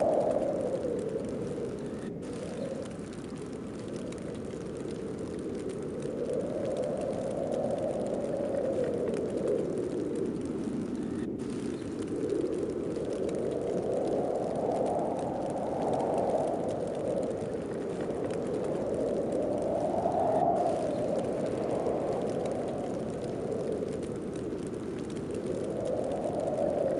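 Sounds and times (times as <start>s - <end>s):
snowstorm wind gusting: 0.0s - 26.9s.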